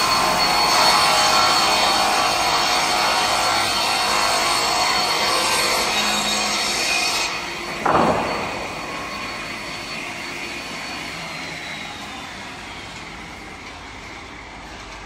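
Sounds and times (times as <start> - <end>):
saw cutting a board: 0.0 - 13.2
saw machine high whine: 0.0 - 15.0.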